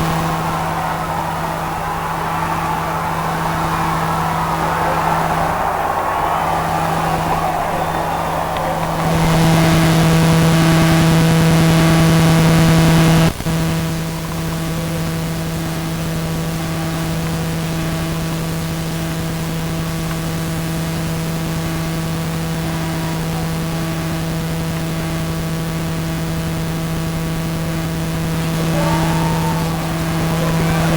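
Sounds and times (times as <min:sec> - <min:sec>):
buzzing hum: 0:00.0 - 0:30.9.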